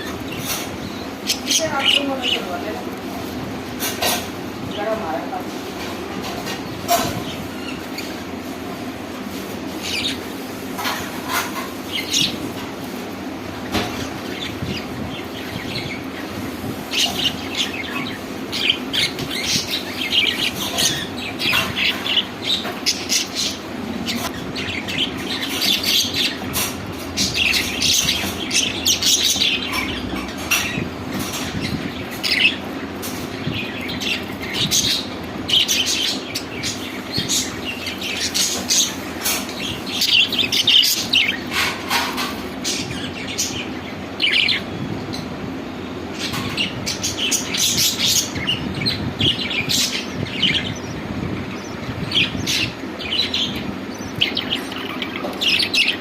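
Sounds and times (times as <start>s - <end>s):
budgerigars chirping: 0.0s - 5.2s, 9.7s - 12.6s, 13.6s - 45.3s, 46.1s - 56.0s.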